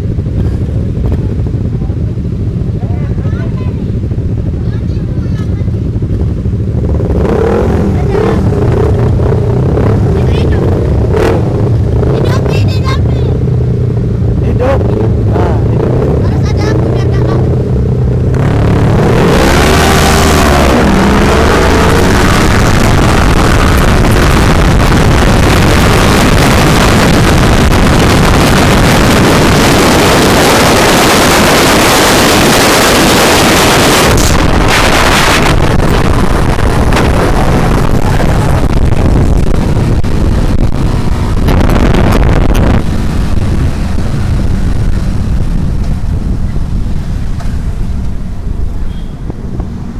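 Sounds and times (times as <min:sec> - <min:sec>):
motorcycle engine running: 0:00.0 - 0:49.9
wind rushing over microphone: 0:00.0 - 0:49.9.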